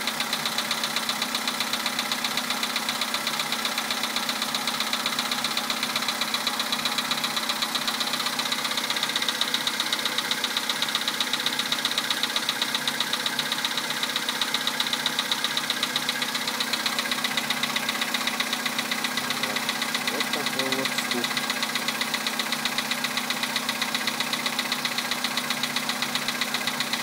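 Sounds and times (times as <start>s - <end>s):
car engine idling with knocking: 0.0s - 27.0s.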